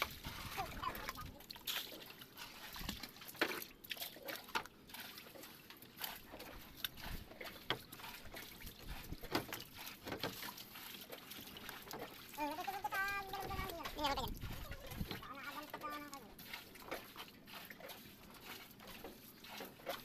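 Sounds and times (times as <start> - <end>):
jug scooping water: 0.0 - 20.0
water sloshing and trickling: 0.0 - 20.0.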